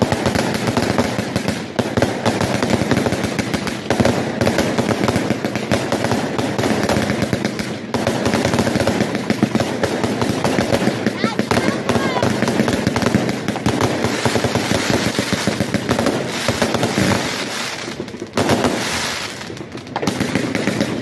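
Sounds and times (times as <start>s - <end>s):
fireworks barrage: 0.0s - 21.0s.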